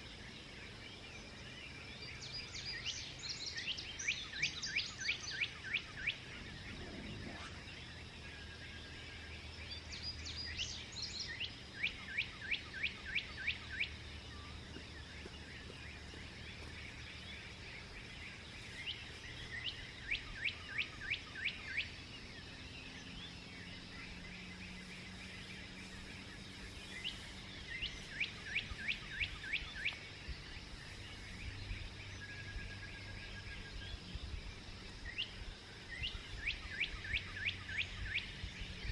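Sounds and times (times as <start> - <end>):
soft bird chirps: 0.0 - 38.9
faint low hum: 5.6 - 38.9.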